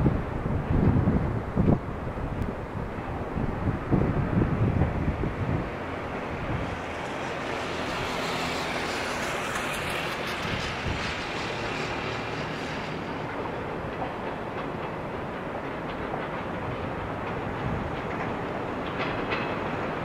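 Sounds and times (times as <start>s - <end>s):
train rolling on tracks: 0.0s - 20.0s.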